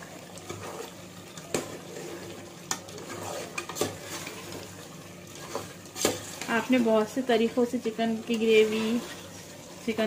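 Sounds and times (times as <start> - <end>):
metal ladle stirring in pot: 0.0 - 9.8
low sizzle of frying: 0.0 - 10.0.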